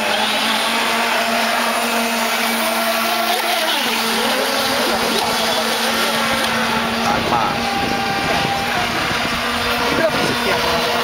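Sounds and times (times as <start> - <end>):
model boat motors whining: 0.0 - 11.0.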